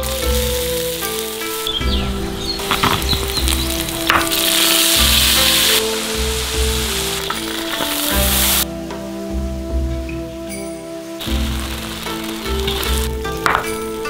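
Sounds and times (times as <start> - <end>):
food sizzling in a hot wok: 0.0 - 8.6, 11.2 - 14.0
soft background music: 0.0 - 14.0.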